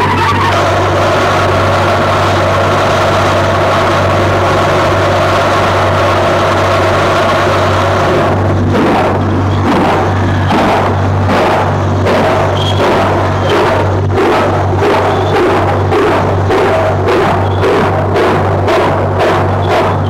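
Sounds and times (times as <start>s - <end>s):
locomotive exhaust beats: 0.0s - 20.0s
low hum: 0.0s - 20.0s
steam locomotive running: 0.0s - 20.0s.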